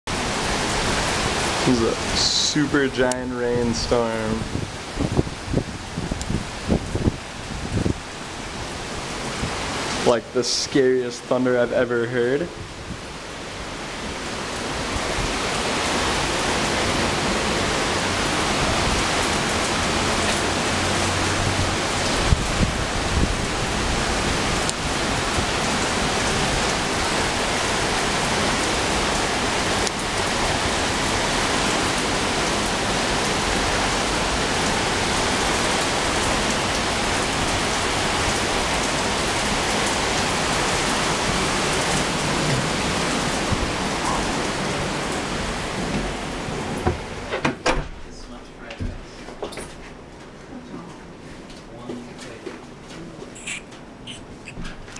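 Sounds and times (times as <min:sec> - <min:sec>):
heavy rain pouring: 0:00.1 - 0:49.2, 0:51.0 - 0:54.9.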